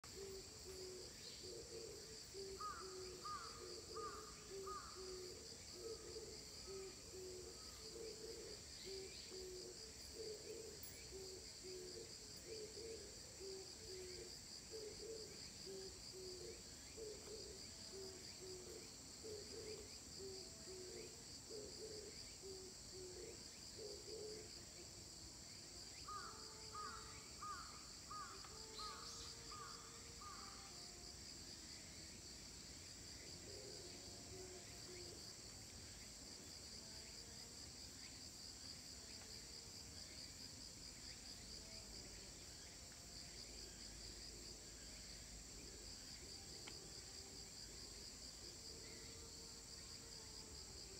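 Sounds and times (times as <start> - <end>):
high steady hiss: 0.0 - 50.9
insect chorus trilling: 0.0 - 50.9.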